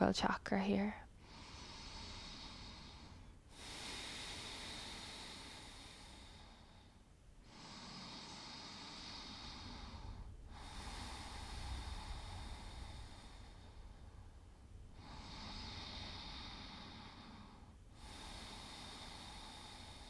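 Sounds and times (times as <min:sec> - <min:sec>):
woman breathing slowly: 0:01.0 - 0:20.0.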